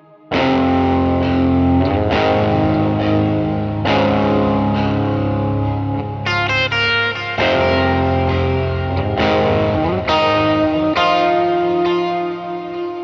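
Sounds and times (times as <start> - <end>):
overdriven electric guitar chords: 0.0 - 13.0.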